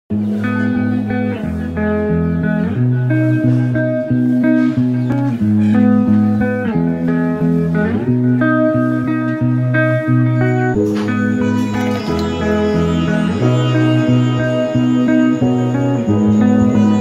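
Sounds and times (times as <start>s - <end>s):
guitar music over bass line: 0.1s - 17.0s.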